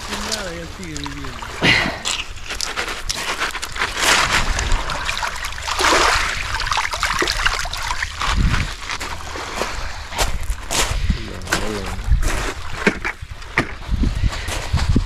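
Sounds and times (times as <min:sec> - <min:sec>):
small waves washing over pebbles: 0:00.0 - 0:14.7.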